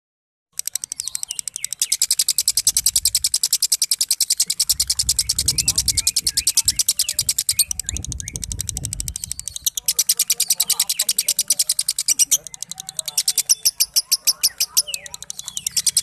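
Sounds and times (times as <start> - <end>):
lovebird ratcheting trill: 0.5 - 16.0
short squeaky bird chirps: 0.7 - 16.0.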